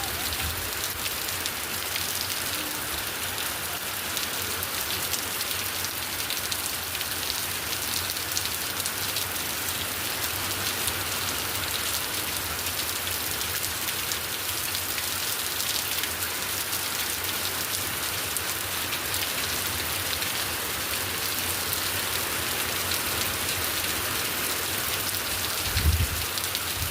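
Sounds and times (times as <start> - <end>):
rain falling: 0.0 - 26.9.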